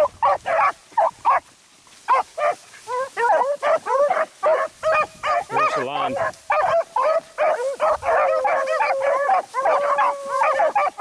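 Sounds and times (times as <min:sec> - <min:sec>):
dogs baying and barking: 0:00.0 - 0:11.0.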